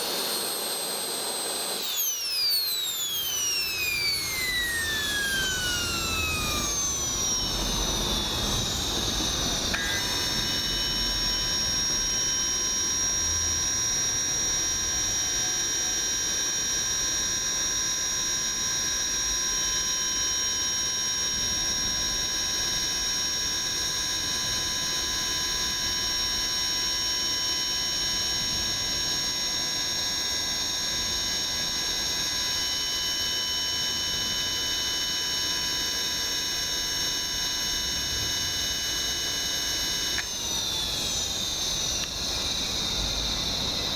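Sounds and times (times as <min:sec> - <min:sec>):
turbojet engine whine: 0:00.0 - 0:43.9.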